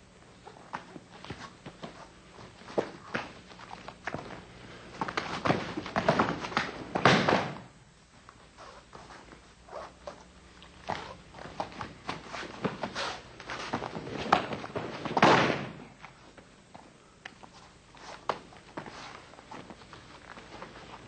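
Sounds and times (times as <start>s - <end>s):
feet shuffling on a mat: 0.4s - 7.1s, 8.2s - 15.3s, 15.9s - 21.0s.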